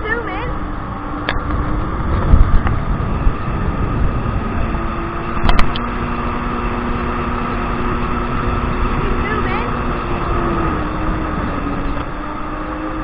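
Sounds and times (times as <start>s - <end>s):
jet ski engine drone: 0.0s - 13.0s
rushing water and wind: 0.0s - 13.0s.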